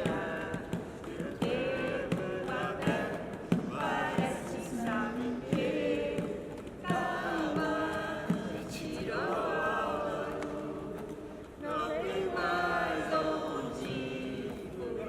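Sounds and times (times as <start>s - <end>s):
group singing long notes: 0.0s - 15.0s.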